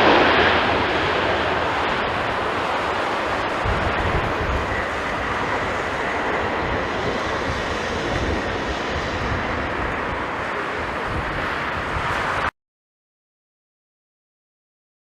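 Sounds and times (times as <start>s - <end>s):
jet engines roaring: 0.0s - 12.5s
wind rumbling on microphone: 0.0s - 12.5s.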